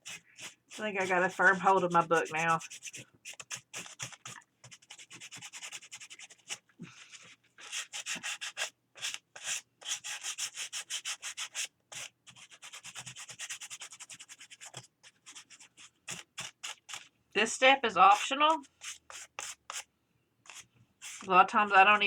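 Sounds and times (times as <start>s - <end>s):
sanding paper page edges: 0.0s - 6.6s, 7.6s - 17.0s, 18.1s - 19.8s, 20.5s - 21.3s.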